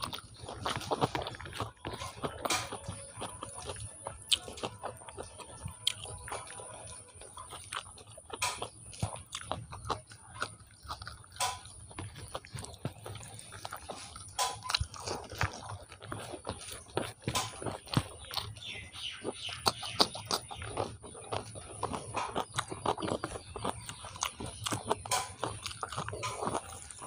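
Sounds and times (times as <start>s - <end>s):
close chewing: 0.0s - 27.0s.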